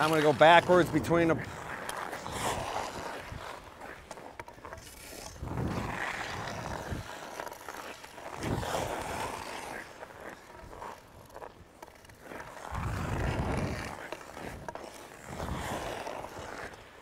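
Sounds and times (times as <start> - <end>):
skate blades scraping on ice: 0.0 - 17.0.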